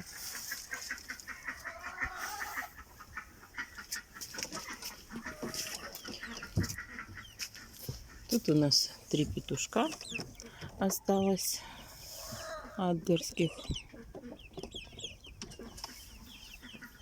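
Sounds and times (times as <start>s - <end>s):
chicken drawn-out calls: 0.0s - 8.4s, 10.0s - 17.0s
chickens clucking: 0.0s - 17.0s.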